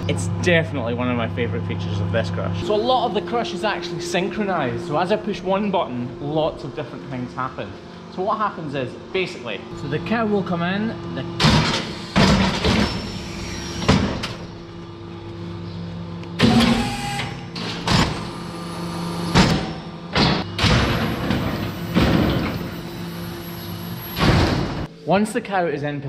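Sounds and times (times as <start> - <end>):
hydraulic power unit hum: 0.0 - 25.6.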